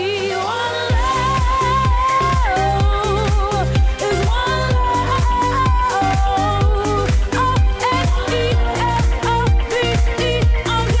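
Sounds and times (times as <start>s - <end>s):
dance-pop music: 0.0s - 11.0s
steady kick-drum beat: 0.9s - 11.0s.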